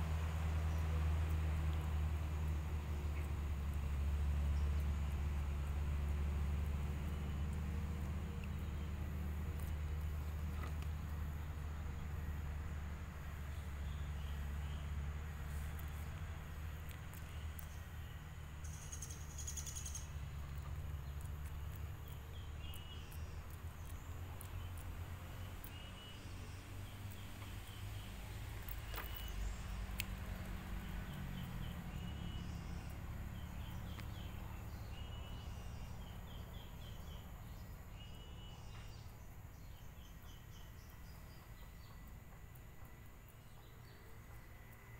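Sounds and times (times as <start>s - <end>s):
songbird chirping: 0.0s - 44.9s
steady low rumble: 0.0s - 44.9s.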